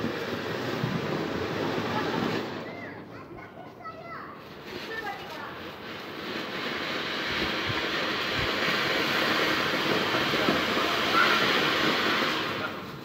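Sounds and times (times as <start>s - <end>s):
fountain firework hissing: 0.0s - 3.2s, 4.0s - 13.0s.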